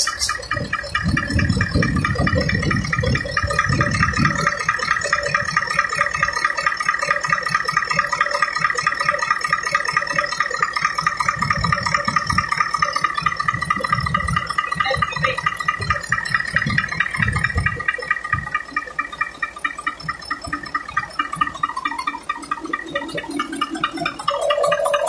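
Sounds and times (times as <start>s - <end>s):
diesel engine idling: 0.0s - 25.0s
turbo whine: 0.0s - 25.0s.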